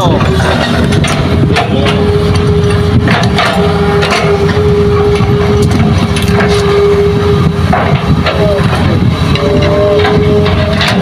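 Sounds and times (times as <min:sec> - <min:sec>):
excavator diesel engine whine: 0:00.0 - 0:11.0.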